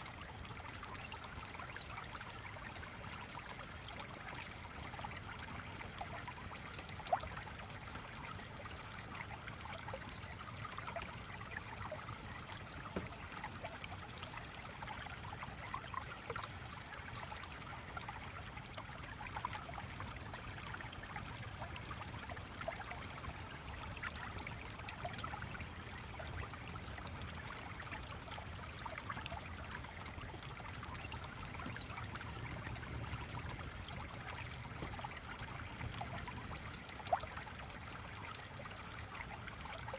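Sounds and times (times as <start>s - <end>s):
stream trickling and babbling: 0.0s - 39.9s
small water splashes: 0.2s - 39.9s.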